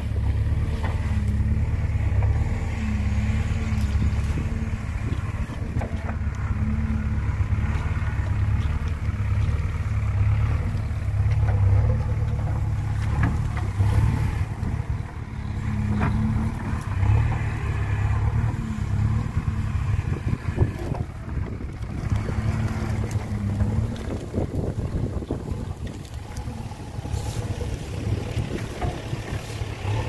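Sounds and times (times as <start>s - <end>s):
bucket and arm clanking: 0.0s - 30.0s
diesel engine running under load: 0.0s - 30.0s.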